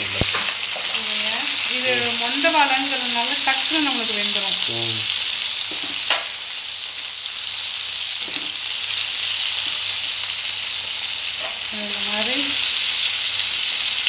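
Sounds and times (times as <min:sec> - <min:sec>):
plantain sizzling in oil: 0:00.0 - 0:14.0.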